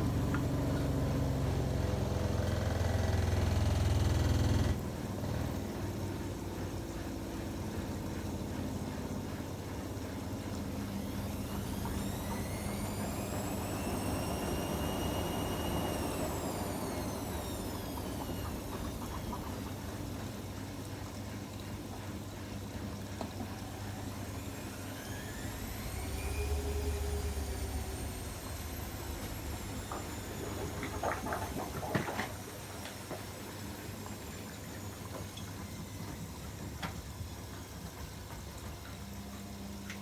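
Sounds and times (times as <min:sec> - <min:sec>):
washing machine drum rumbling: 0:00.0 - 0:39.0
washing machine hum: 0:00.0 - 0:40.0
washing machine motor whine: 0:00.0 - 0:40.0.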